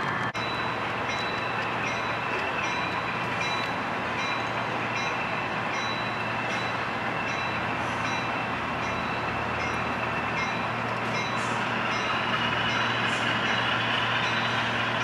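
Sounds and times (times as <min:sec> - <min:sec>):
model train wheels on rails: 0:00.0 - 0:15.0.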